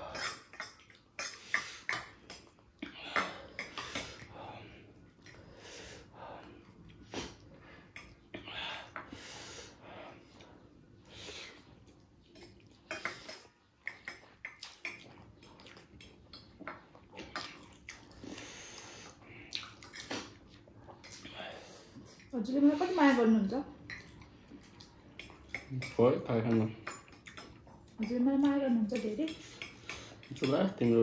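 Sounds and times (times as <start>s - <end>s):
eating noises: 0.0s - 22.3s, 23.7s - 31.0s.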